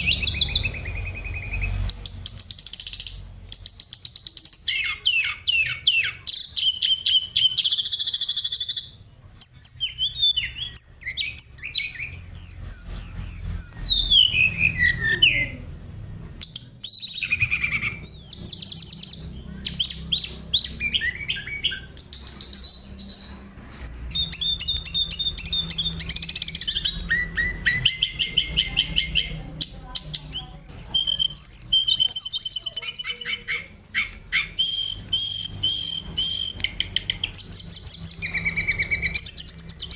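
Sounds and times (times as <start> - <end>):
songbird singing whistles and trills: 0.0 - 15.7, 16.4 - 39.9.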